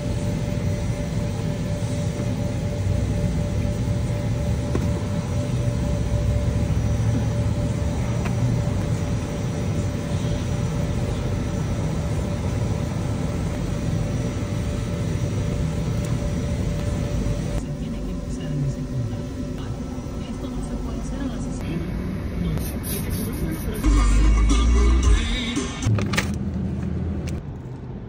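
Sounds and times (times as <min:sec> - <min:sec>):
faint constant hum: 0:00.0 - 0:25.2.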